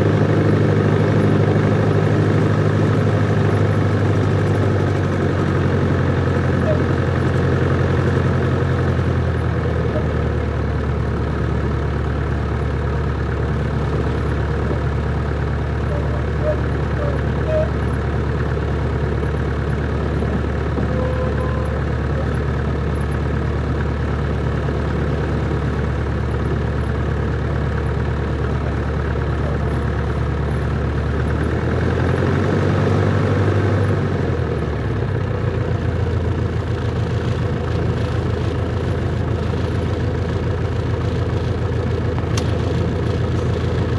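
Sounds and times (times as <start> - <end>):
plane engine and propeller: 0.0 - 43.9.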